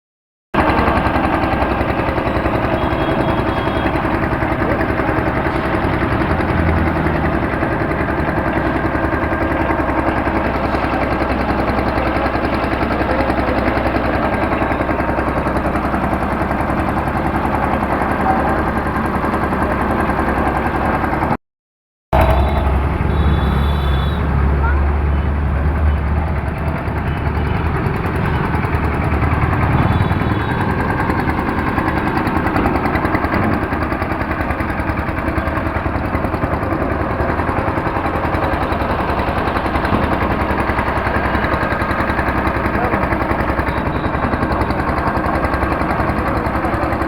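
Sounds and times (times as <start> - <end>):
concrete mixer rattling: 0.6 - 21.4, 24.9 - 47.0.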